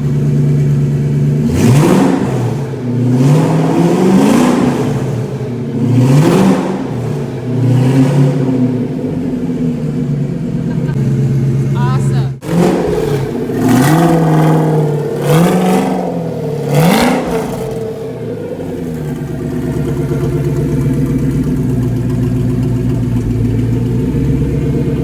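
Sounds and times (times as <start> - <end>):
car engine idling: 0.0 - 25.0
supercharged car engine revving: 0.0 - 25.0.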